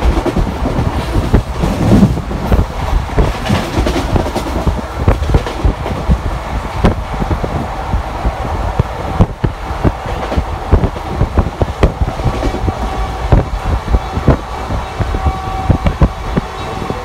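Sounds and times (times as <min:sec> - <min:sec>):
low train rumble: 0:00.0 - 0:17.0
train wheels clattering over track: 0:00.0 - 0:17.0.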